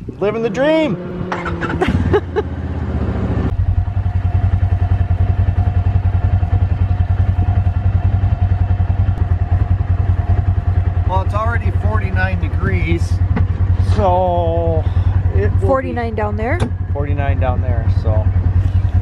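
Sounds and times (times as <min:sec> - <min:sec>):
engine clatter: 0:00.0 - 0:19.0
utility vehicle engine idling: 0:01.2 - 0:19.0.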